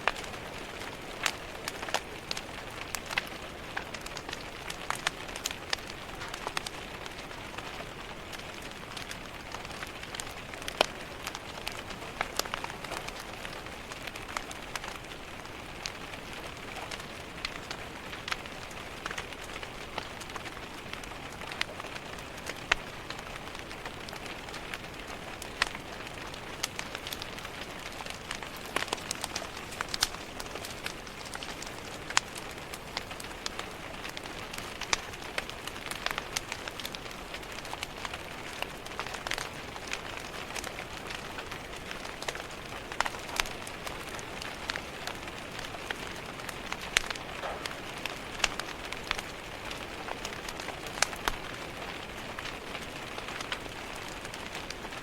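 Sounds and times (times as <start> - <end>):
rain pattering on a window: 0.0 - 55.0
wood fire crackling and popping: 0.0 - 55.0.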